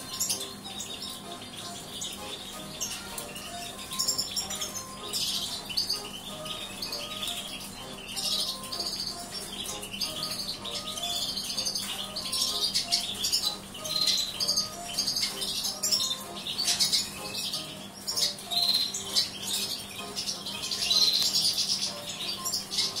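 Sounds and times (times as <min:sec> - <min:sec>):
birds rustling in a cage: 0:00.0 - 0:23.0
finches chirping: 0:00.0 - 0:23.0.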